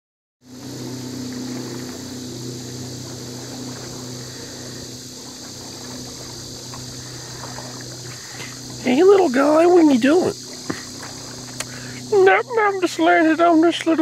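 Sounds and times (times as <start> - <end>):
low motor hum: 0.4 - 14.0.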